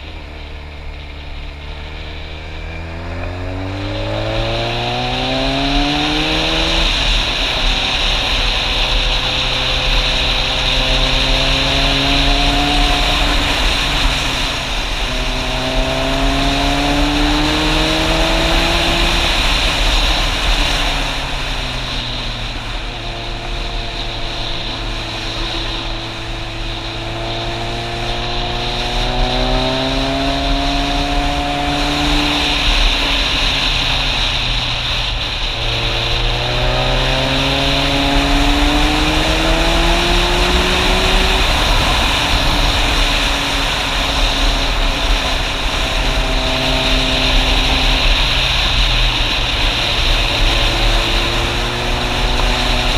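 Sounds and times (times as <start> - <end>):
motorcycle engine shifting gears: 0.0 - 52.9
steady rushing noise: 0.0 - 52.9.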